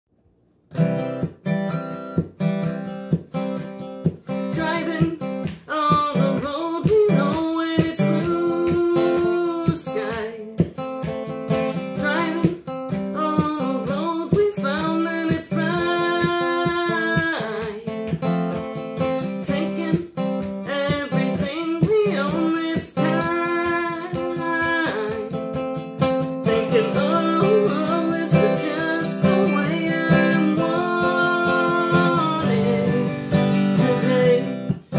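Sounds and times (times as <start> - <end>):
acoustic guitar strumming: 0.7 - 34.9
woman singing: 4.3 - 18.3, 19.0 - 25.6, 26.2 - 34.9.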